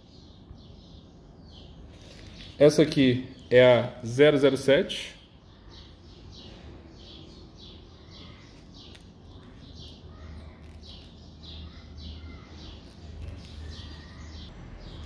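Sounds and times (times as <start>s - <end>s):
small bird chirping: 0.0s - 3.8s, 4.7s - 15.0s.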